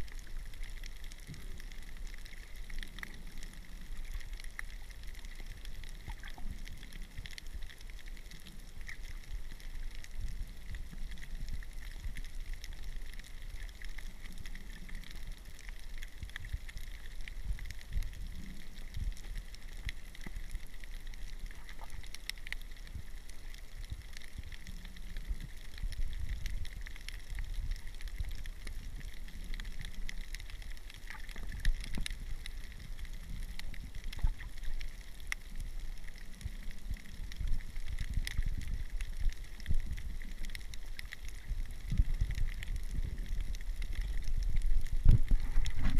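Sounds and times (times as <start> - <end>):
fine crackling clicks: 0.0 - 45.9
underwater rumble of moving water: 0.0 - 45.9.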